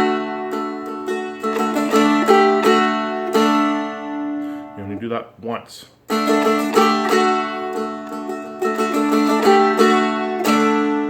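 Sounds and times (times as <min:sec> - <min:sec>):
dulcimer melody over drone strings: 0:00.0 - 0:04.6, 0:06.2 - 0:11.0
dulcimer strum: 0:00.0 - 0:05.2, 0:06.1 - 0:11.0.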